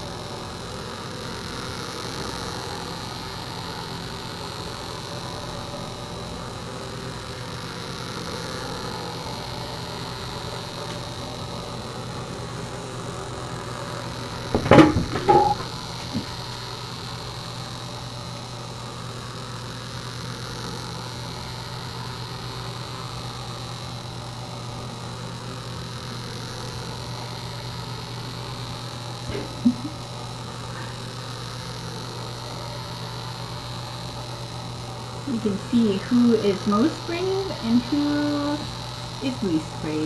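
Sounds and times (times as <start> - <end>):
low electric hum: 0.0 - 40.0.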